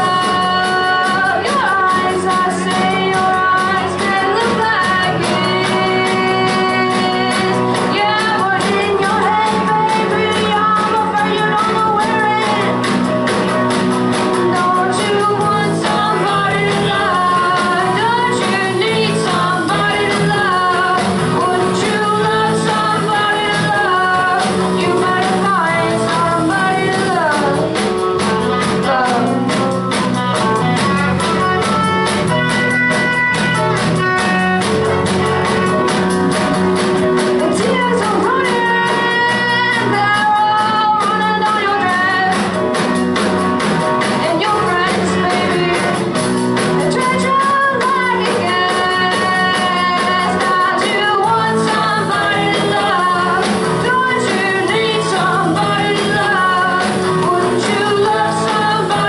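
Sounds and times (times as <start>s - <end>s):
person singing: 0.0s - 43.0s, 43.6s - 59.0s
bass guitar: 0.0s - 59.0s
drum kit: 0.0s - 59.0s
electric guitar: 0.0s - 59.0s
keyboard: 0.0s - 59.0s.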